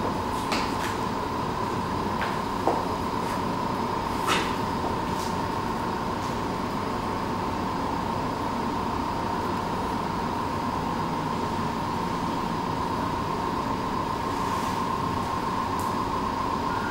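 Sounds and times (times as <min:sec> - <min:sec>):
steady hum and hiss: 0:00.0 - 0:16.9.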